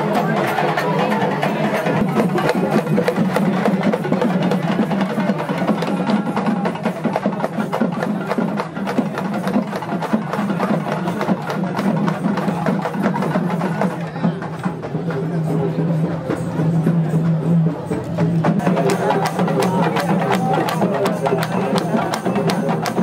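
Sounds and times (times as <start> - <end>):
rapid drumming: 0.0 - 23.0.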